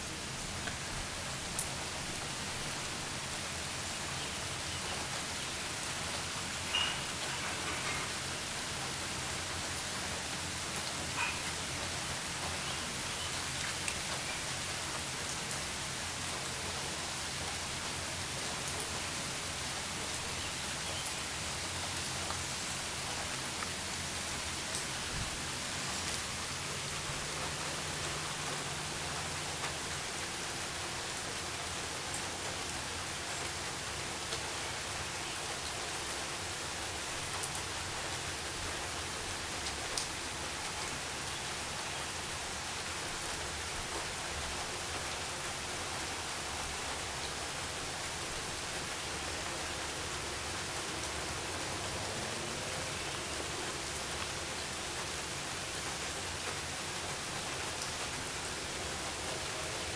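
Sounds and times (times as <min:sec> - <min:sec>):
rain falling on trees: 0:00.0 - 0:59.9.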